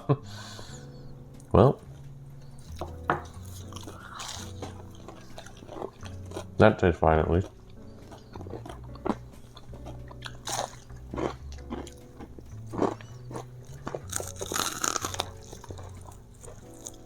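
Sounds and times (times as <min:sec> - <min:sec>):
crunching and chewing fried chicken: 0:01.8 - 0:17.0.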